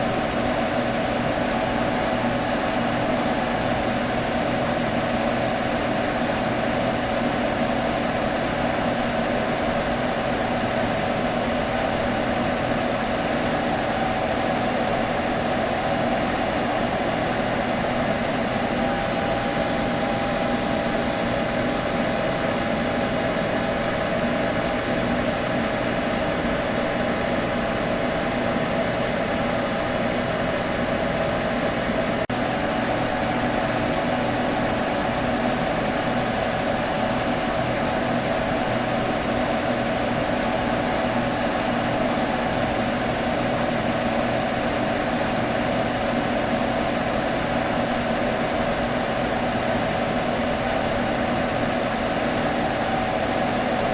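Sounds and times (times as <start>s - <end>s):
computer fans humming: 0.0s - 53.9s.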